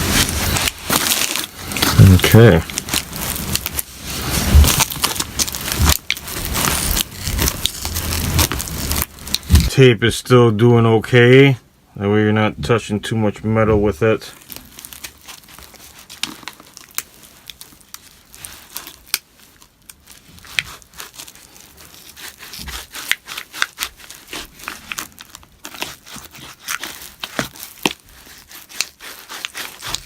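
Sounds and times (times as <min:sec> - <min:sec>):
adhesive crackling and tearing: 0:00.0 - 0:09.7, 0:14.3 - 0:30.0.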